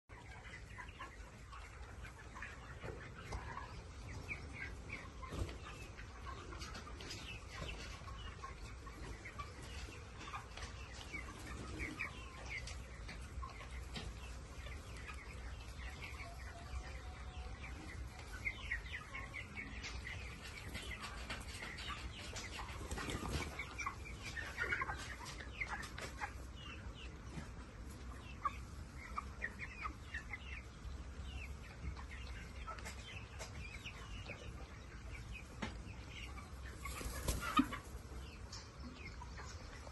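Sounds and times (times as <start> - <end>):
chickens clucking: 0.1 - 39.9.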